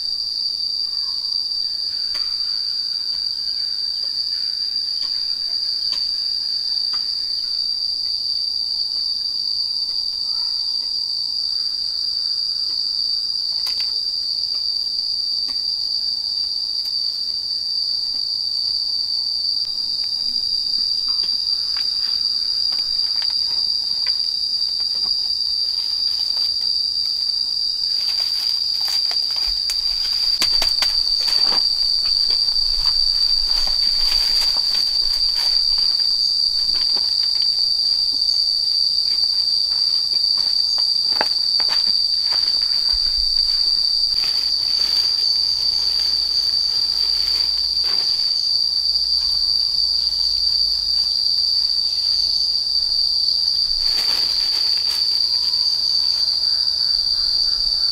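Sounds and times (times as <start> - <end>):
high-pitched insect drone: 0.0 - 57.9.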